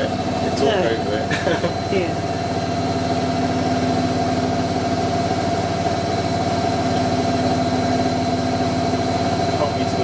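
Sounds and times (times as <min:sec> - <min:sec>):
washing machine motor humming: 0:00.0 - 0:10.0.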